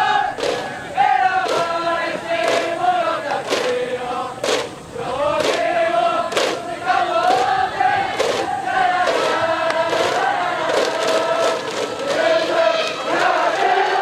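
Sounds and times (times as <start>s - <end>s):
crowd chanting and singing: 0.0s - 14.0s.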